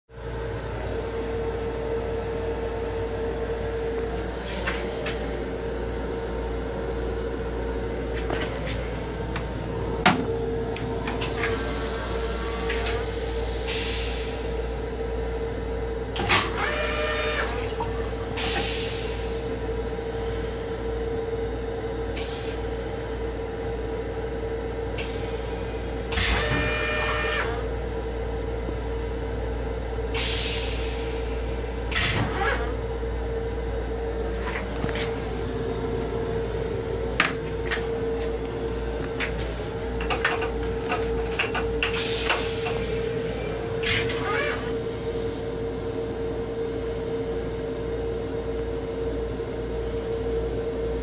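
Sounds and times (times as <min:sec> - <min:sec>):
railcar low rumble: 0:00.1 - 0:16.3, 0:16.9 - 0:51.0
constant hum: 0:00.1 - 0:51.0.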